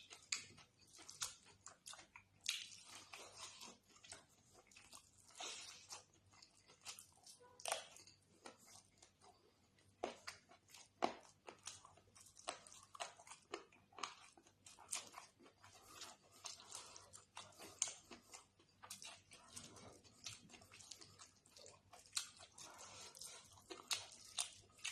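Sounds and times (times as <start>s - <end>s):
chewing and crunchy bites: 0.0s - 24.9s.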